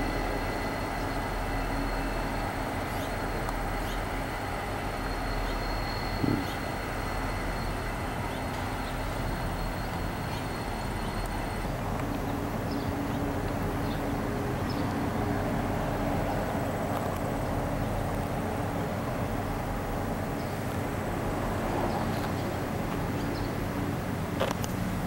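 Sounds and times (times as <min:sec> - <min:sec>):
diesel locomotive engines running: 0:00.0 - 0:25.0.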